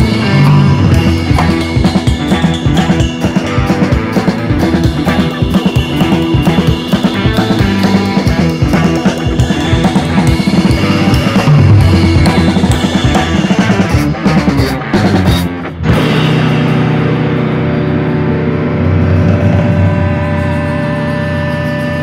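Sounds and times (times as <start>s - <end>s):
drum-kit beat: 0.0s - 21.0s
upbeat rock music: 0.0s - 22.0s.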